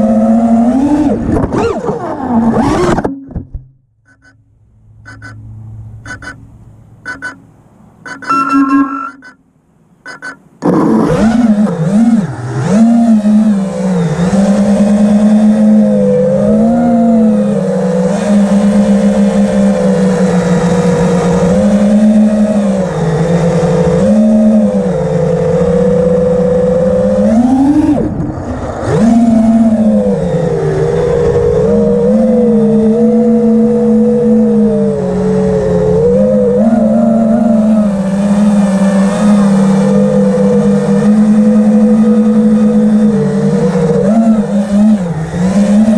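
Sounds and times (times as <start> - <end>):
small motor revving: 0.0 - 3.1, 10.6 - 45.9.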